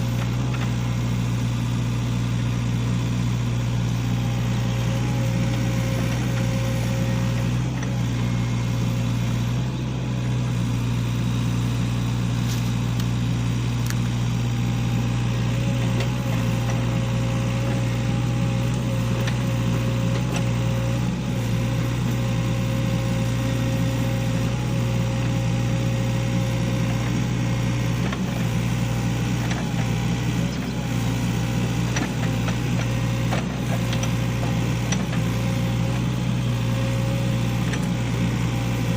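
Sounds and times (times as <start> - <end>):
excavator diesel engine humming: 0.0 - 38.9.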